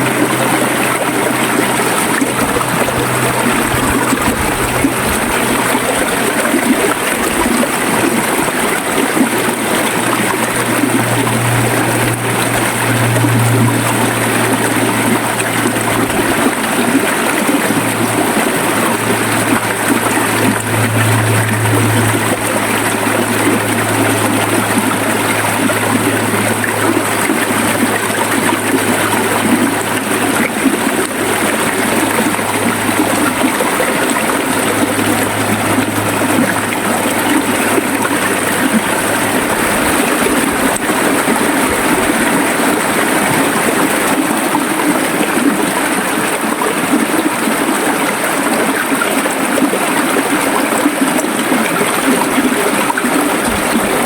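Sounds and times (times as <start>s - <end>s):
low hum: 0.0s - 44.3s
river water flowing: 0.0s - 54.0s.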